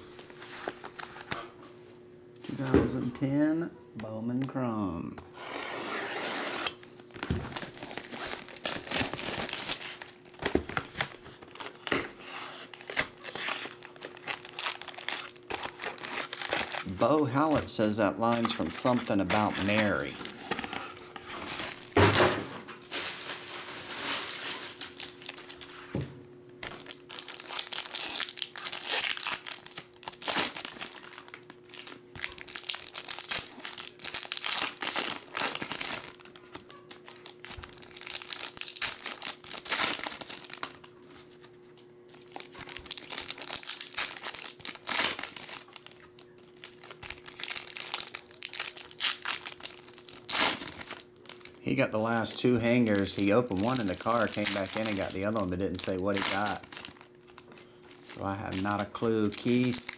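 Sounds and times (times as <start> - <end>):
foil wrappers tearing and crinkling: 5.4 - 25.8, 26.6 - 59.9.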